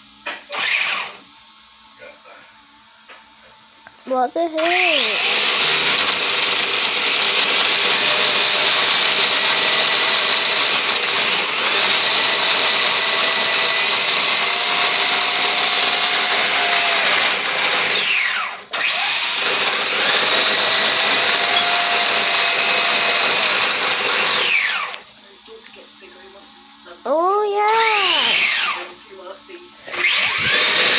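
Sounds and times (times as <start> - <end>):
electric motor whining: 0.0 - 1.2, 4.1 - 30.9.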